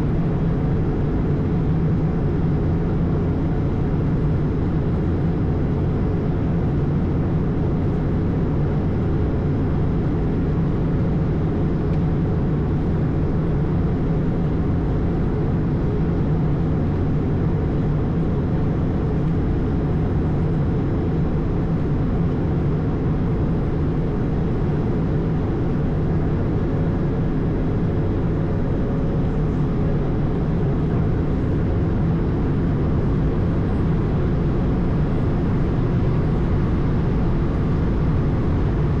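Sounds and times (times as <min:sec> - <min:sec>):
aircraft cabin engine rumble: 0:00.0 - 0:39.0.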